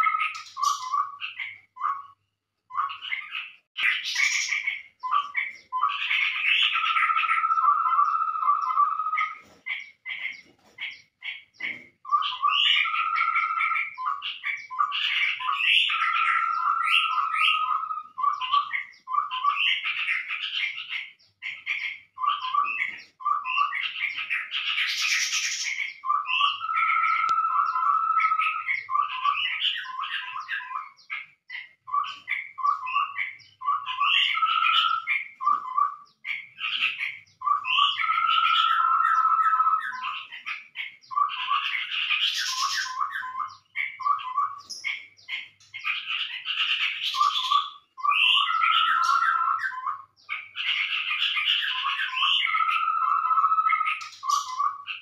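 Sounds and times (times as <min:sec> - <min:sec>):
bird chattering: 0:00.0 - 0:55.0
birds calling: 0:00.0 - 0:55.0.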